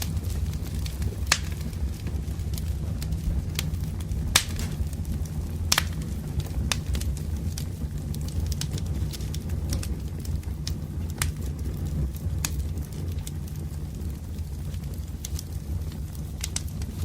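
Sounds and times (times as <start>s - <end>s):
campfire crackling and popping: 0.0s - 17.0s
low rumble of burning logs: 0.0s - 17.0s.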